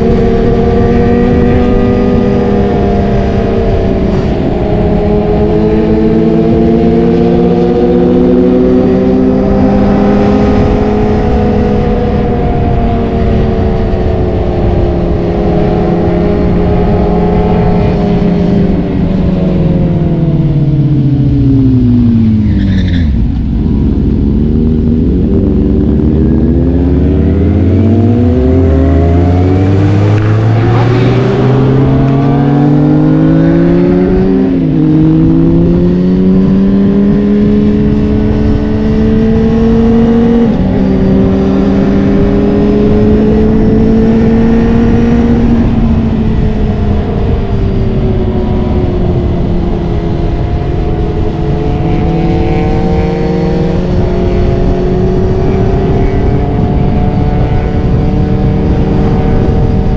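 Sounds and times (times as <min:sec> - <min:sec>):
motorcycle engine accelerating: 0:00.0 - 0:59.9
steady rushing noise: 0:09.4 - 0:59.9.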